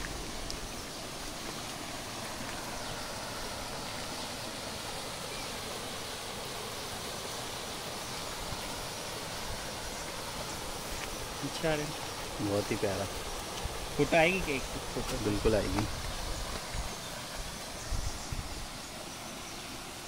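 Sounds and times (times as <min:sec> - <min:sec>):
waterfall pouring over rock: 0:00.0 - 0:20.0.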